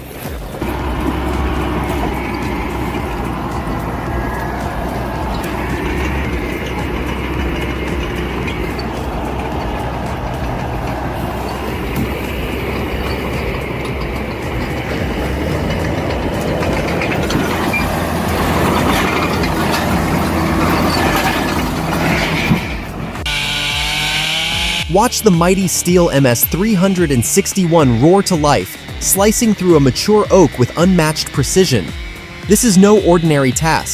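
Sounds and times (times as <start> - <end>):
heavy diesel machinery rumbling: 0.0 - 33.9.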